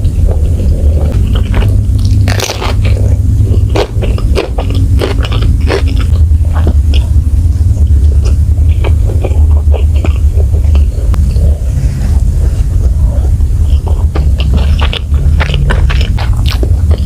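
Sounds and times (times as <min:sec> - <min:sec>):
mouth chewing with wet clicks: 0:00.0 - 0:07.2, 0:07.8 - 0:11.7, 0:12.5 - 0:17.0
steady low hum: 0:00.0 - 0:17.0.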